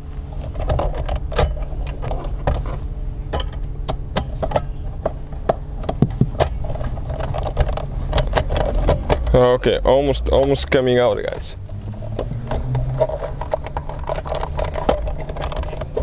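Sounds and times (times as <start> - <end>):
steady low hum: 0.0 - 16.0
clicks and rattles of parts: 0.3 - 16.0.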